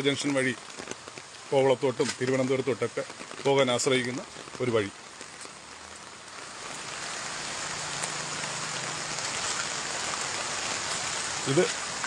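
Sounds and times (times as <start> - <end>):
rain falling on road: 0.0 - 12.0.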